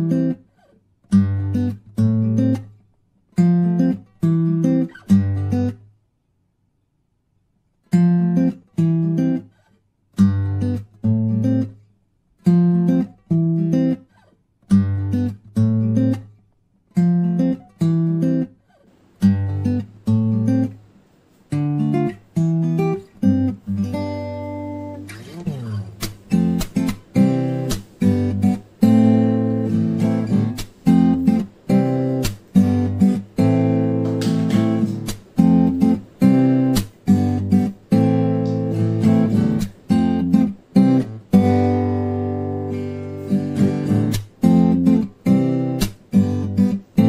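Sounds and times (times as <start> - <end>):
acoustic guitar strumming: 0.0 - 2.7, 3.4 - 5.8, 7.9 - 11.8, 12.4 - 47.0.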